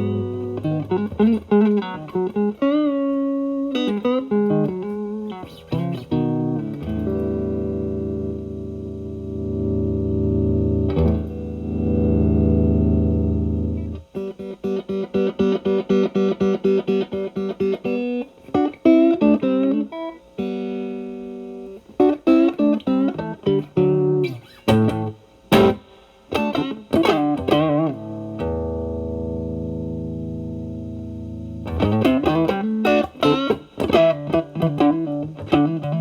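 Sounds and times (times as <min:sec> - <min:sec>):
overdriven electric guitar blues: 0:00.0 - 0:36.0.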